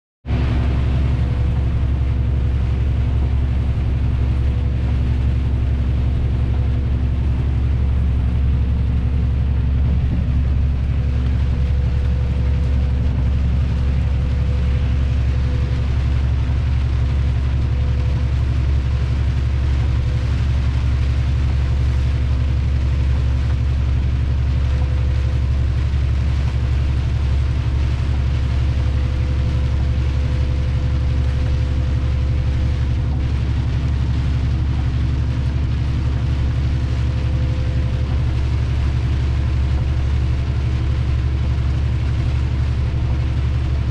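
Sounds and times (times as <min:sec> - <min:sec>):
diesel engine droning: 0:00.2 - 0:43.9
road noise: 0:00.2 - 0:43.9.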